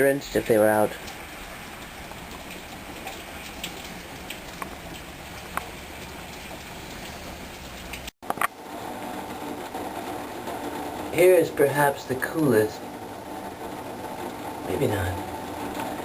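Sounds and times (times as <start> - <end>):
heavy rain hissing: 0.0 - 16.0
raindrops ticking: 0.2 - 16.0.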